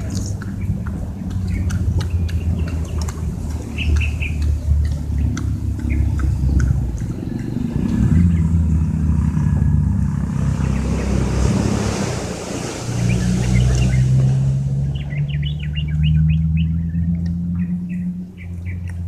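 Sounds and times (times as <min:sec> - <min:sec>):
small birds chirping: 0:00.0 - 0:08.9, 0:12.6 - 0:19.0
engine rumbling: 0:00.0 - 0:19.0.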